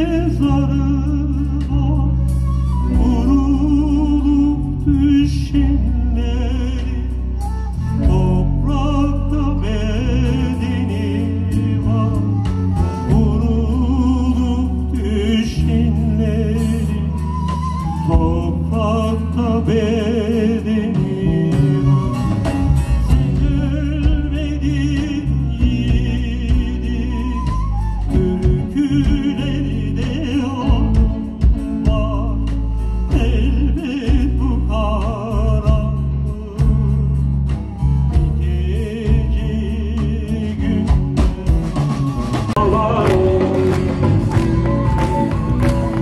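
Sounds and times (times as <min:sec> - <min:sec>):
electric bass: 0:00.0 - 0:46.0
man singing: 0:00.0 - 0:46.0
drum kit: 0:06.7 - 0:46.0.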